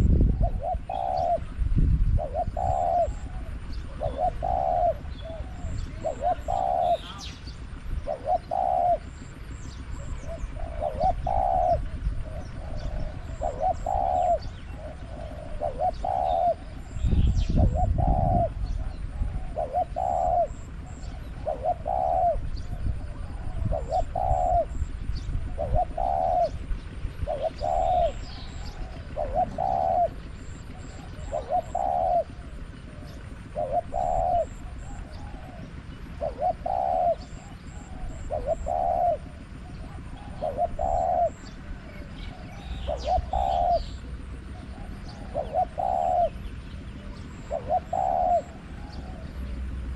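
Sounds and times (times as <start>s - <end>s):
dove cooing: 0.0s - 49.9s
wind buffeting microphone: 0.0s - 49.9s.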